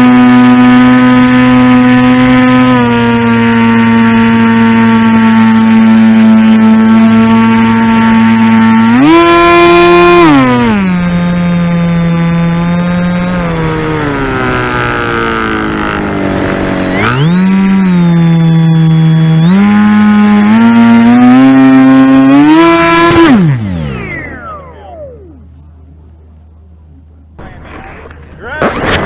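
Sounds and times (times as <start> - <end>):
model airplane motor: 0.0 - 25.7.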